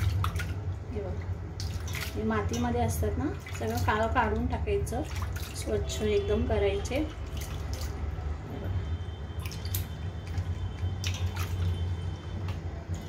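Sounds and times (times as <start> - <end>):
splashing in a bowl of water: 0.0 - 13.0.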